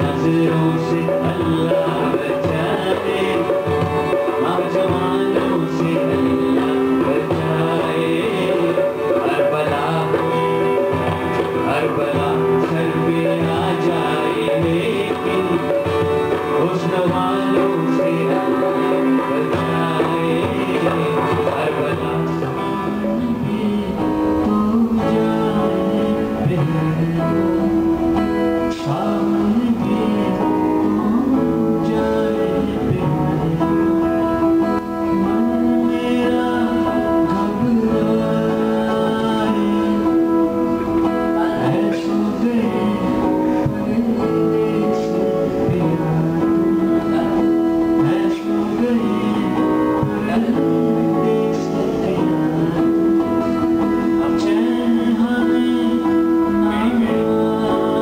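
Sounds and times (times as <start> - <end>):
electric guitar: 0.0 - 58.0
man singing: 0.0 - 58.0
strummed acoustic guitar: 0.0 - 58.0.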